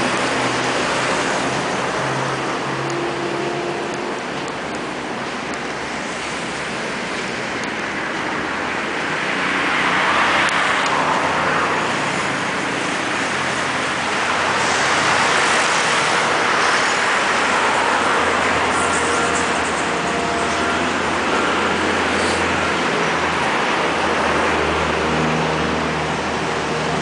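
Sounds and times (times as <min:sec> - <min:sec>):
road traffic rushing: 0:00.0 - 0:27.0.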